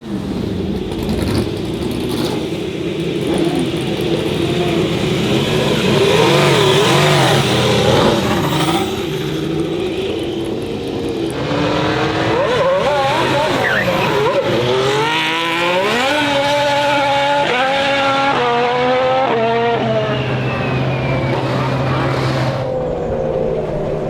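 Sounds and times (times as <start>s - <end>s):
racing car engine revving: 0.0s - 24.0s.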